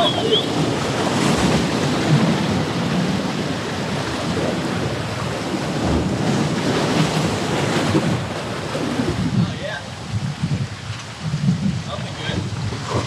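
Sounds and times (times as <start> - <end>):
surf washing against rocks: 0.0 - 13.0
wind on microphone: 0.0 - 13.0.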